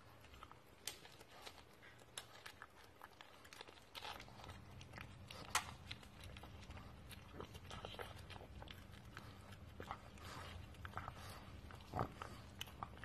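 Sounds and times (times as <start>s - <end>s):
dog gnawing on a chew: 0.0s - 13.0s.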